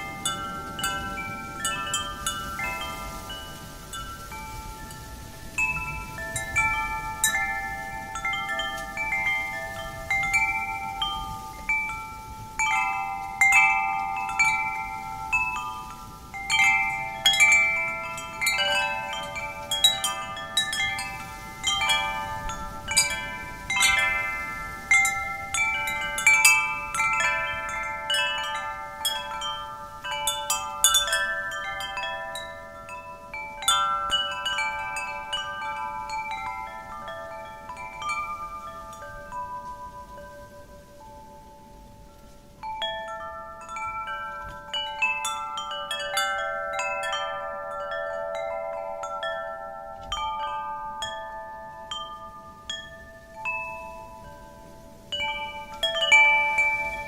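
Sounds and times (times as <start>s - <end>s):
faint wind noise: 0.0s - 57.0s
wind chimes ringing: 0.0s - 57.0s.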